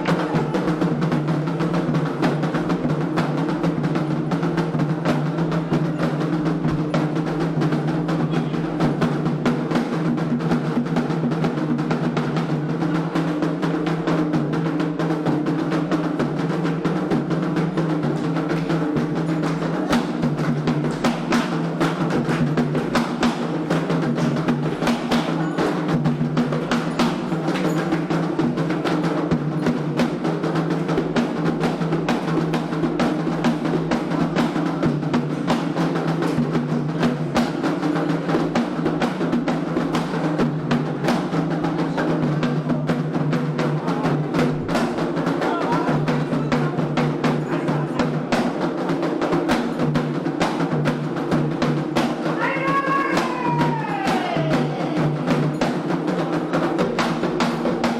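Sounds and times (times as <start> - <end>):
hand drums drumming: 0.0 - 57.9.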